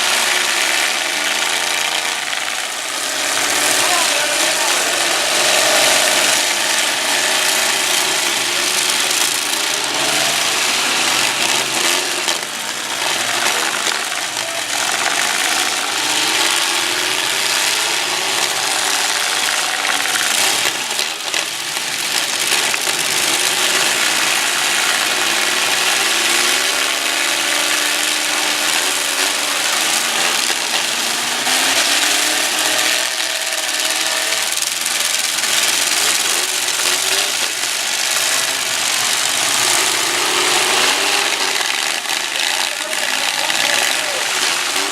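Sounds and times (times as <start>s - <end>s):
metal grinding and scraping: 0.0s - 44.9s
truck engines revving: 0.0s - 44.9s.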